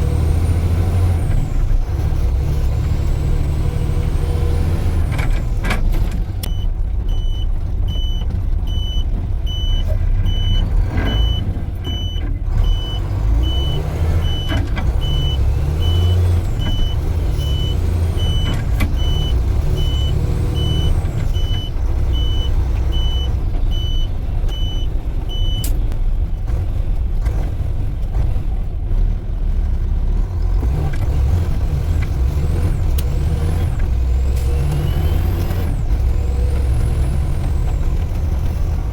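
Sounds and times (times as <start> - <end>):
diesel engine rumble: 0.0 - 38.9.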